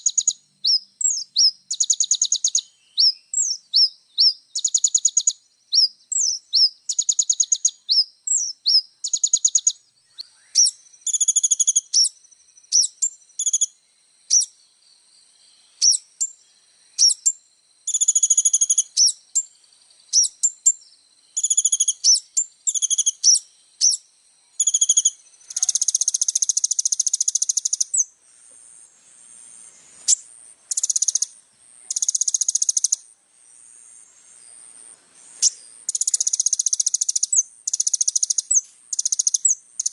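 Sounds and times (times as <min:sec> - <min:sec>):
bird chirps and twittering trills: 0:00.0 - 0:39.9.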